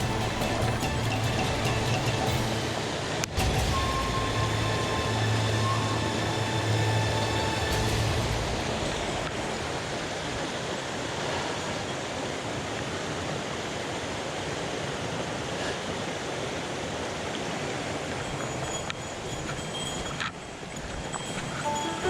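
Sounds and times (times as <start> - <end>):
stream water rushing: 0.0 - 19.3, 21.7 - 22.0.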